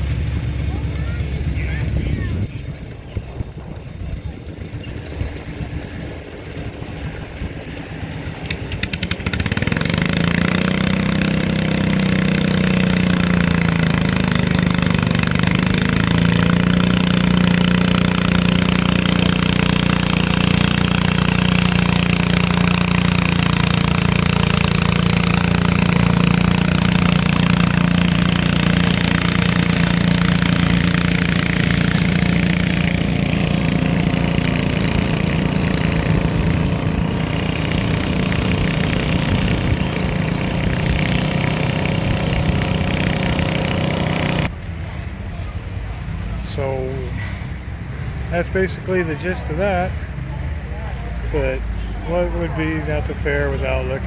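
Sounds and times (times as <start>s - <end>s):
garden tractor engine revving: 0.0s - 44.6s, 46.4s - 54.0s.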